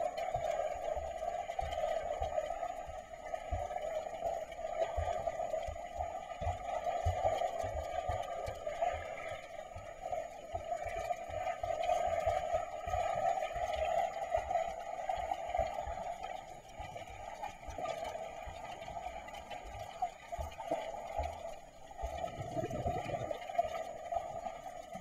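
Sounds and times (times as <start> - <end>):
muffled underwater hum: 0.0 - 25.0.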